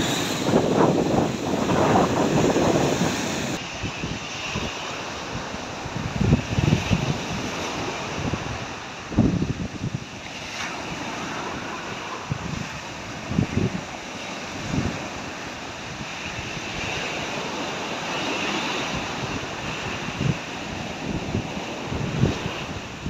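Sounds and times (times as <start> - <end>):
waves washing up beach: 0.0 - 23.0
wind buffeting microphone: 0.0 - 23.0.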